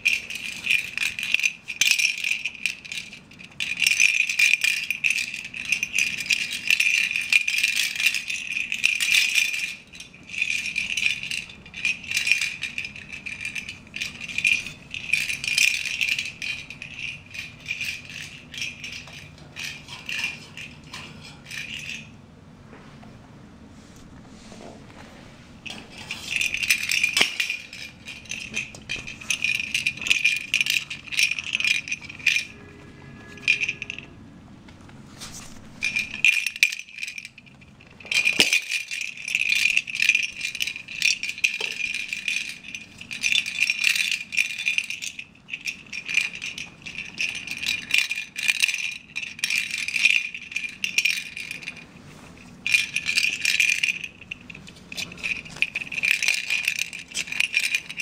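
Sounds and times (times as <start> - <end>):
toy ball rattling and jingling: 0.0 - 22.2, 25.6 - 34.2, 35.7 - 58.0.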